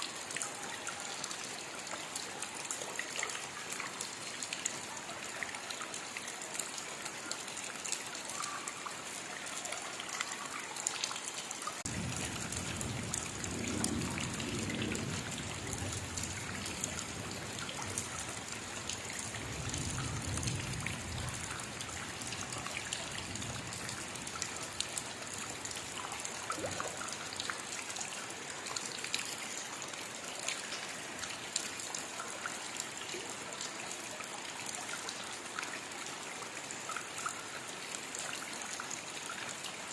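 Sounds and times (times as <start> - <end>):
steady rainfall: 0.0 - 39.9
water trickling: 0.0 - 39.9.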